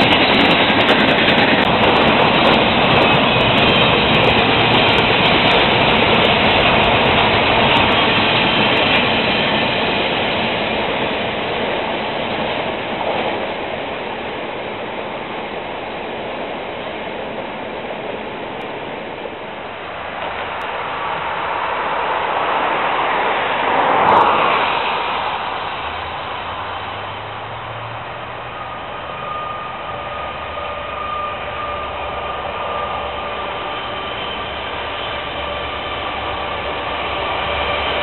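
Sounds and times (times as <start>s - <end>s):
train cars rolling on rails: 0.0s - 38.0s.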